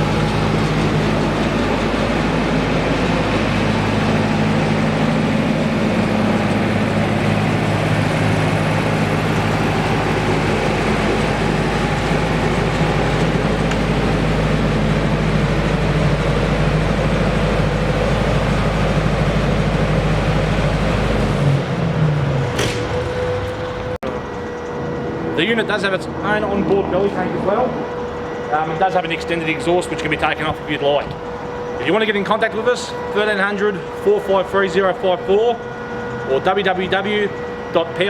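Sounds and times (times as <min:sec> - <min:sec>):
diesel generator running: 0:00.0 - 0:38.0
engine shutting down: 0:00.0 - 0:38.0.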